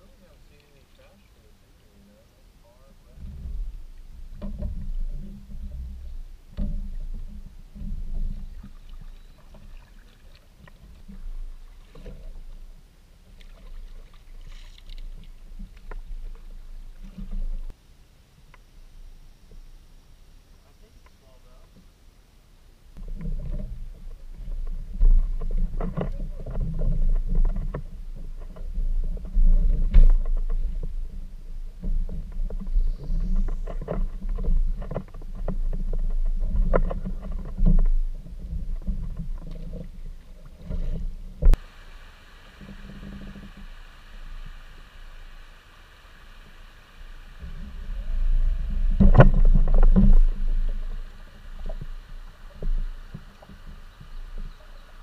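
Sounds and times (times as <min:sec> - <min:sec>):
creek water flowing: 0:00.0 - 0:17.8, 0:23.0 - 0:55.0
low rumble from kayak hull: 0:00.0 - 0:55.0.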